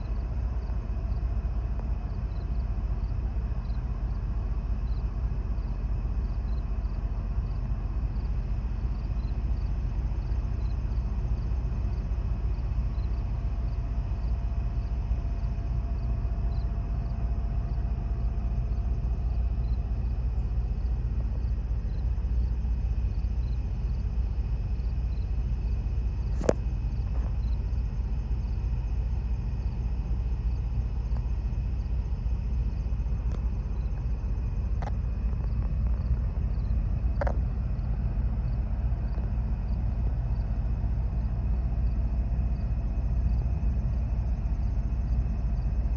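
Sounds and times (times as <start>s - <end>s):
low rumble of night ambience: 0.0s - 45.9s.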